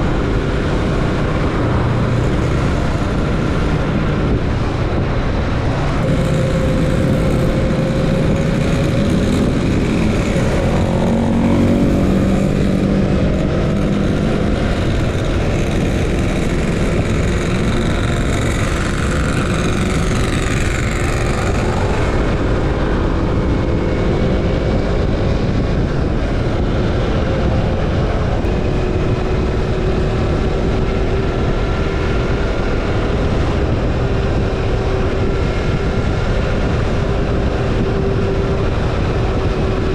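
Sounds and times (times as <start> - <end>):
motorcycle engine: 0.0 - 39.9
wind rushing: 0.0 - 39.9.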